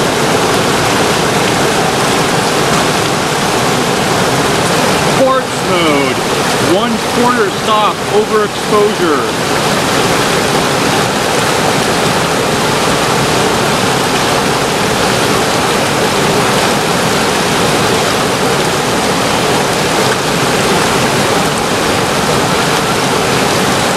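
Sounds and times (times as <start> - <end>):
water rushing over rapids: 0.0 - 23.9.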